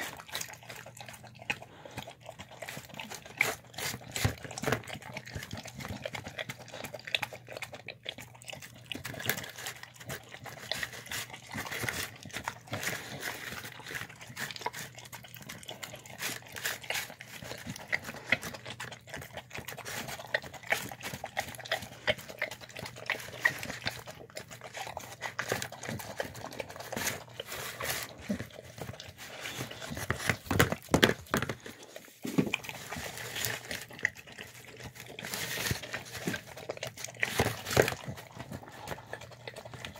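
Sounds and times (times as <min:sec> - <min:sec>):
dog licking and smacking food: 0:00.0 - 0:39.9.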